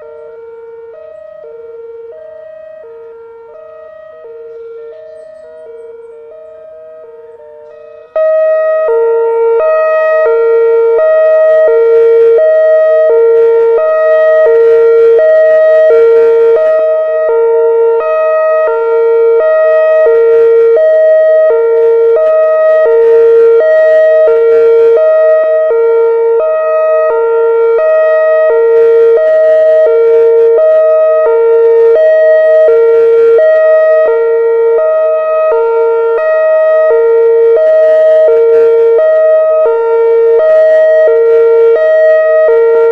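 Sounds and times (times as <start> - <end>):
hi-lo electronic siren: 0.0 - 42.9.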